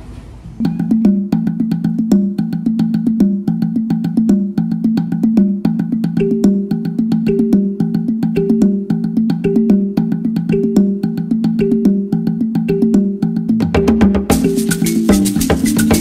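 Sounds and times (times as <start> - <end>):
percussive background music: 0.6 - 16.0.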